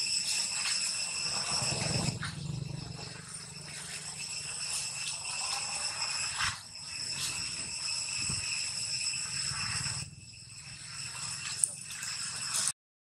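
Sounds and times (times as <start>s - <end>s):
insect chorus drone: 0.0s - 12.7s.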